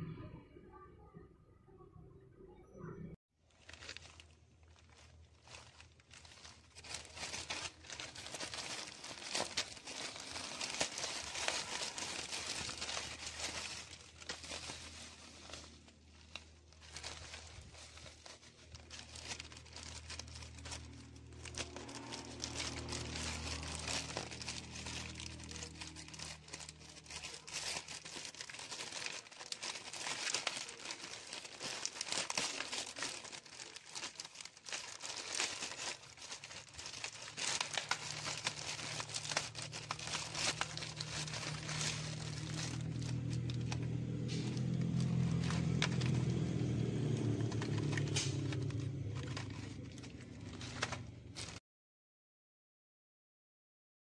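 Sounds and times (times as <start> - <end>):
plastic bag and bubble wrap crinkling: 3.4 - 51.6.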